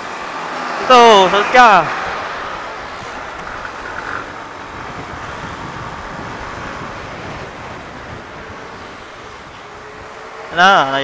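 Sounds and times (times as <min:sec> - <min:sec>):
motorcycle road noise: 0:00.0 - 0:11.0
wind noise: 0:02.0 - 0:11.0.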